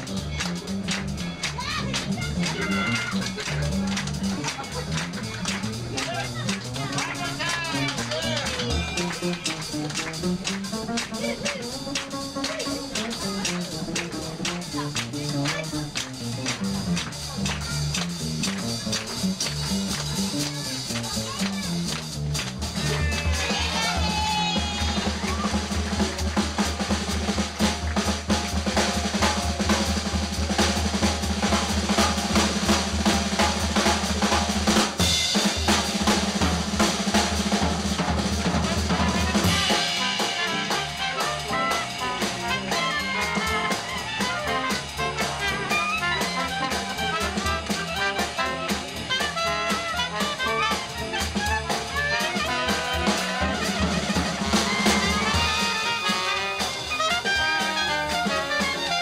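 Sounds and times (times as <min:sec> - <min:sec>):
bass: 0:00.0 - 0:59.0
drum kit playing: 0:00.0 - 0:59.0
horns and clarinet melody: 0:00.0 - 0:59.0.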